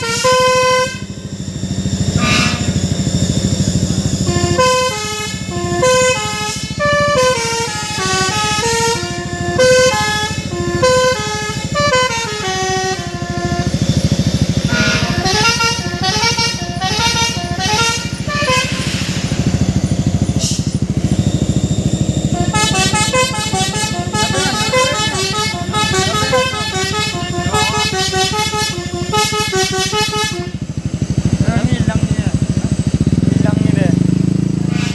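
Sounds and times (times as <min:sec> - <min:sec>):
truck melody horn playing a tune: 0:00.0 - 0:31.9, 0:34.6 - 0:34.9
truck engine rumble: 0:00.0 - 0:34.9.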